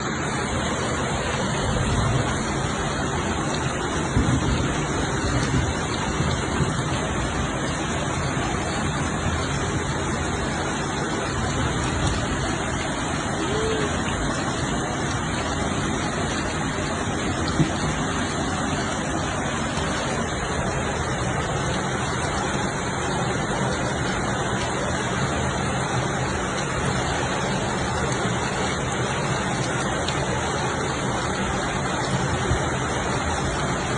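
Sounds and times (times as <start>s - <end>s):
heavy rain and running water: 0.0s - 33.9s.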